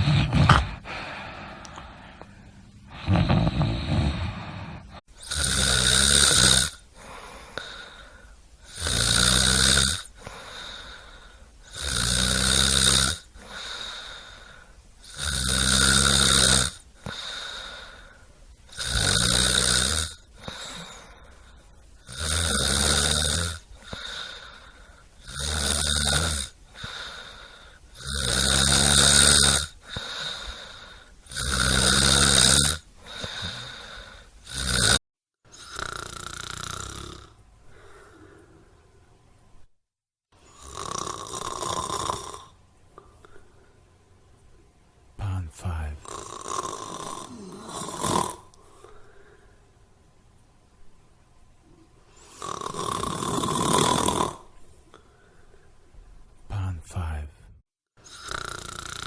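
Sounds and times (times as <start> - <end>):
person snoring: 0.0 - 2.2, 2.9 - 38.8, 40.4 - 43.4, 45.2 - 49.5, 52.1 - 55.1, 58.0 - 59.0.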